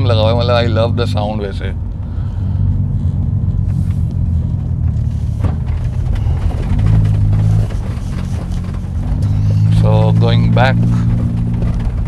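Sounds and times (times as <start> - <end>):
car exhaust drone: 0.0 - 12.0.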